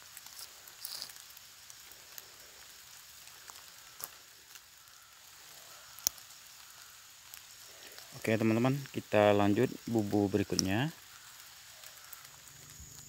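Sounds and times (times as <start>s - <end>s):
light rain hissing: 0.0s - 13.0s
small ticks: 0.0s - 13.0s.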